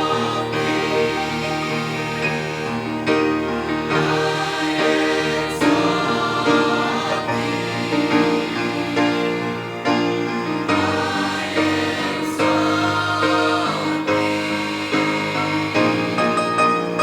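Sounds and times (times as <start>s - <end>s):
gospel choir singing in harmony: 0.0s - 17.0s.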